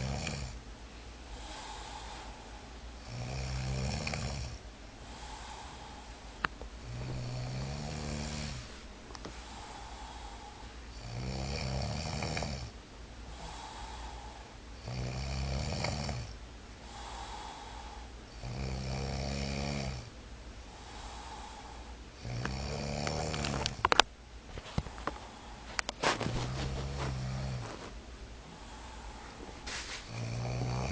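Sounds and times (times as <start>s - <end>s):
person snoring: 0.0s - 0.6s, 1.3s - 8.8s, 9.4s - 20.1s, 20.7s - 23.9s, 25.0s - 30.9s.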